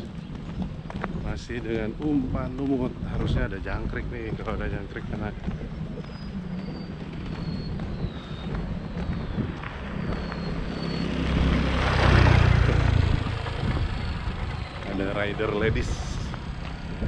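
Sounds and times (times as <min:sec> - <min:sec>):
wind noise: 0:00.0 - 0:17.0
vehicle engine running: 0:03.1 - 0:17.0.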